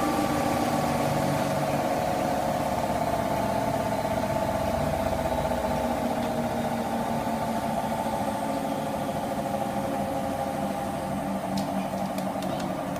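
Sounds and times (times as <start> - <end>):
washing machine spin cycle hum: 0.0 - 12.9.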